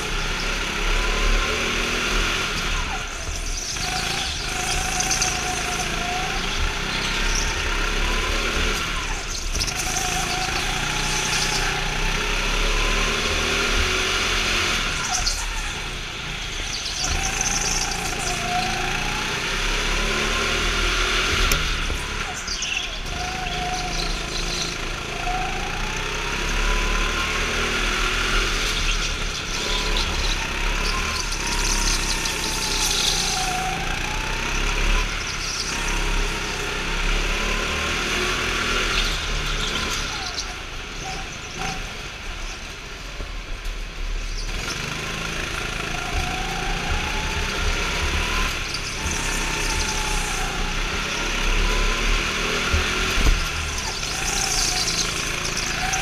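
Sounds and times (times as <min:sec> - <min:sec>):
go-kart motor revving: 0:00.0 - 0:56.0.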